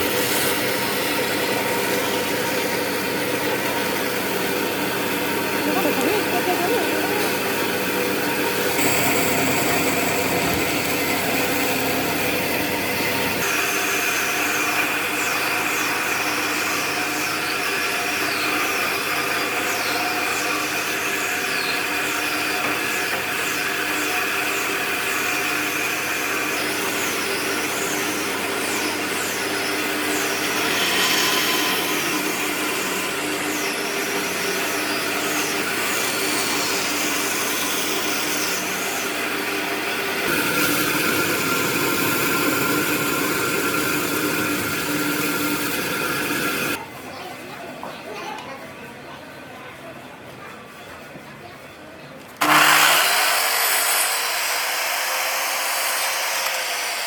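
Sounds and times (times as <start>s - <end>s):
electric motor running: 0.0s - 46.8s, 52.4s - 57.0s.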